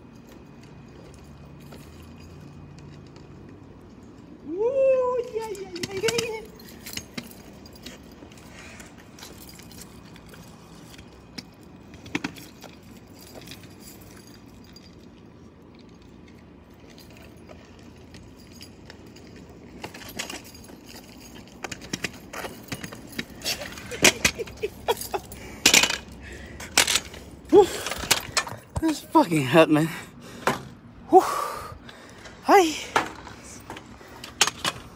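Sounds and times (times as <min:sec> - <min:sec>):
metallic clinks and rattles of scooter: 0:00.0 - 0:30.9, 0:31.7 - 0:34.9.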